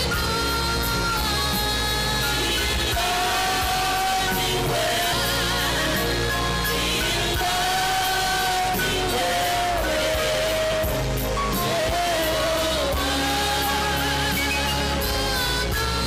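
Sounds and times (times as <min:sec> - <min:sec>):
gospel music with singing: 0:00.0 - 0:16.0.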